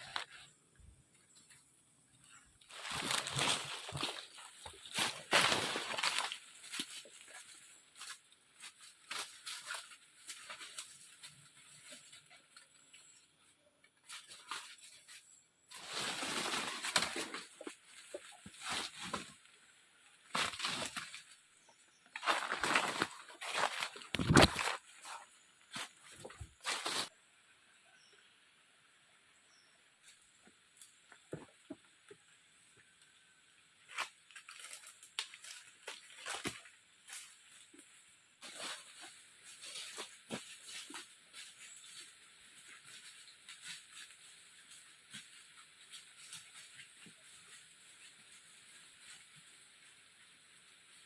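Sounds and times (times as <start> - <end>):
vegetation rustling and crackling: 2.2 - 13.4, 14.0 - 27.2, 33.7 - 51.0.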